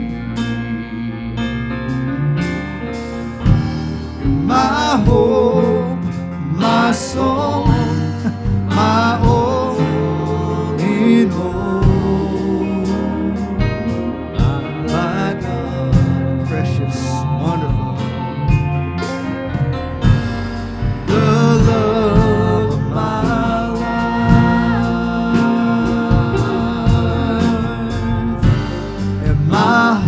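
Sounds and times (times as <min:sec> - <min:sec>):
worship band with guitar: 0:00.0 - 0:30.0.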